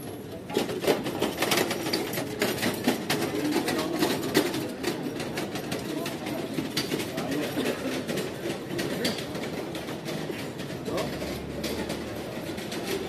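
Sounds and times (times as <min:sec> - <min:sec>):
murmur of busy street: 0:00.0 - 0:13.0
rapid clicking and clattering: 0:00.4 - 0:13.0.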